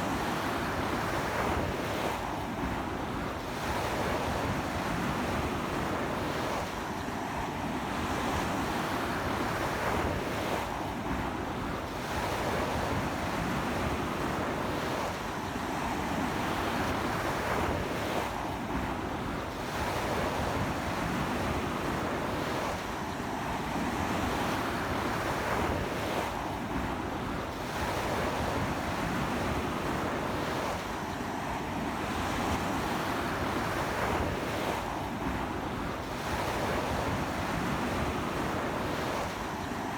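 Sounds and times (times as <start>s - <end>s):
strong sea wind: 0.0s - 39.9s
waves breaking on beach: 7.3s - 39.9s.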